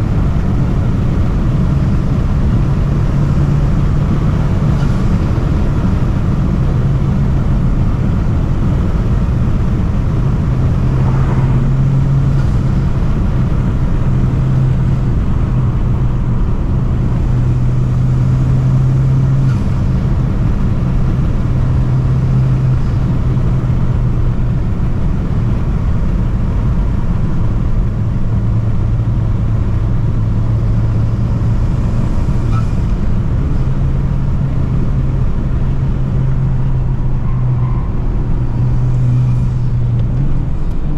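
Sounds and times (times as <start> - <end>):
car engine running loud: 0.0 - 40.9
road and wind noise: 0.0 - 40.9.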